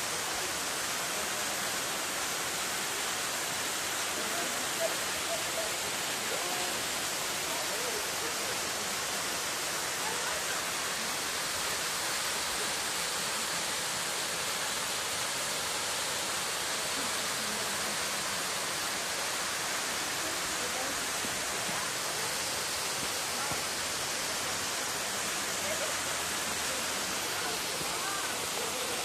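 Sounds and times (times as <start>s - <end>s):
waterfall rushing into a pool: 0.0s - 29.0s.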